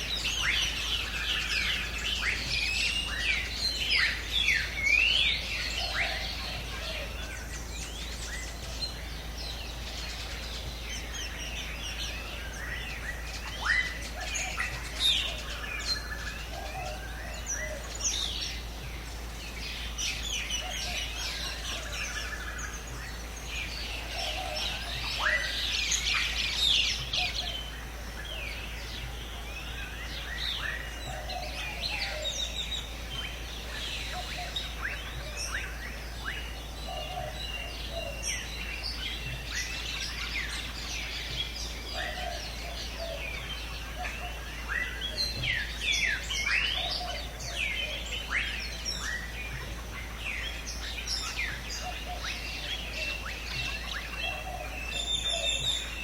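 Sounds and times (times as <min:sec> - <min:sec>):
many birds chirping and calling: 0:00.0 - 0:56.0.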